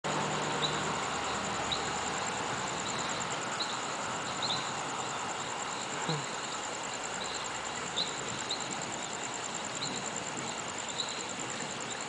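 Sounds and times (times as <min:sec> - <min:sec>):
crickets trilling: 0:00.0 - 0:12.0
distant car traffic hum: 0:00.0 - 0:12.0.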